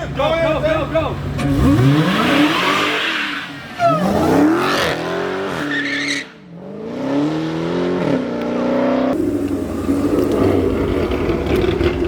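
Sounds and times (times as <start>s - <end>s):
car engine revving: 1.2s - 5.8s, 6.5s - 12.0s.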